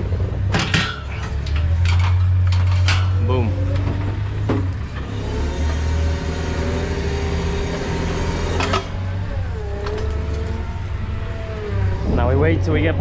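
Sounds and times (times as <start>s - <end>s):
vehicle engine humming with whine: 0.0s - 13.0s.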